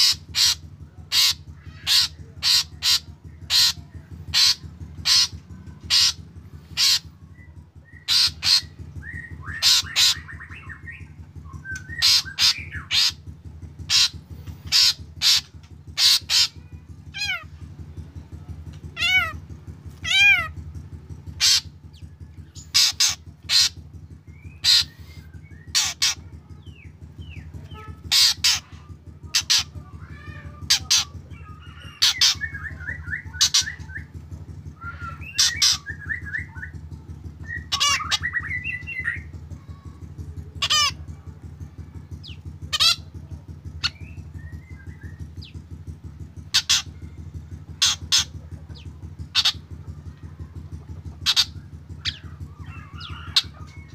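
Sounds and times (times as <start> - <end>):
bird calling sharp notes: 0.0 - 53.9.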